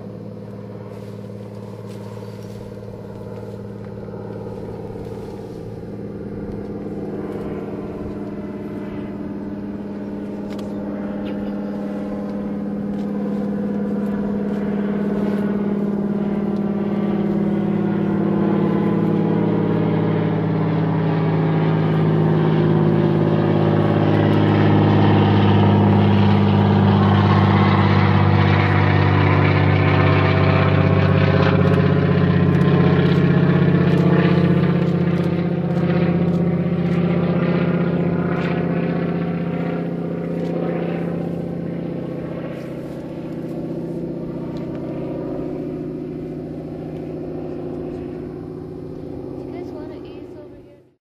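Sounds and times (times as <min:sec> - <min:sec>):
propeller plane engine passing: 0:00.0 - 0:51.0.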